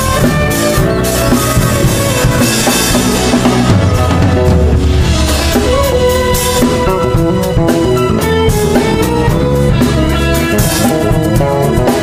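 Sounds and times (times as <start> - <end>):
bass guitar: 0.0 - 12.0
drums: 0.0 - 12.0
electric guitar melodic line: 0.0 - 12.0
hand percussion: 1.2 - 12.0.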